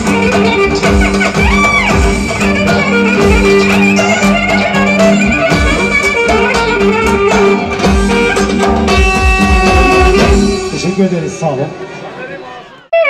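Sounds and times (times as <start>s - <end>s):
drum beating a steady rhythm: 0.0s - 11.8s
sustained melody line: 0.0s - 12.2s.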